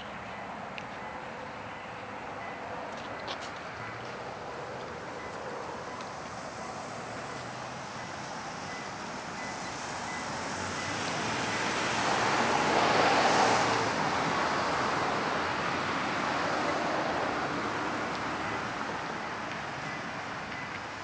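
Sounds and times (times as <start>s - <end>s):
passing vehicle road noise: 0.0s - 21.0s.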